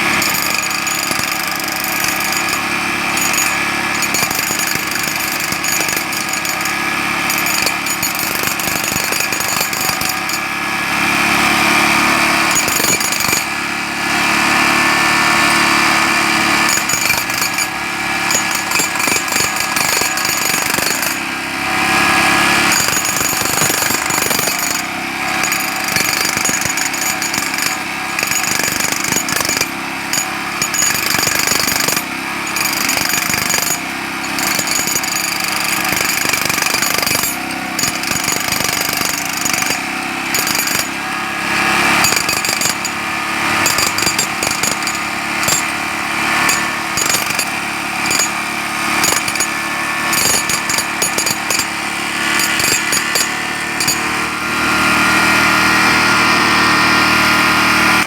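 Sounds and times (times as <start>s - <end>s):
jackhammer hammering: 0.0s - 58.0s.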